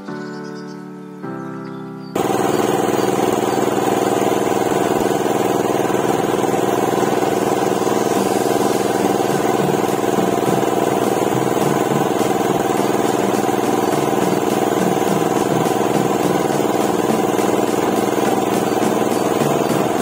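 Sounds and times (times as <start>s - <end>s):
low rhythmic beat: 2.2s - 20.0s
pellet mill engine drone: 2.2s - 20.0s.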